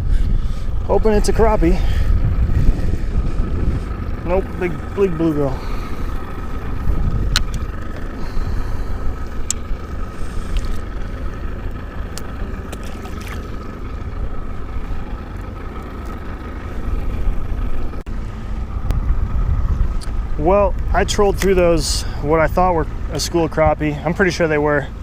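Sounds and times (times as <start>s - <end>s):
wind rumbling on microphone: 0.0s - 23.8s
faint motor whine: 0.0s - 25.0s.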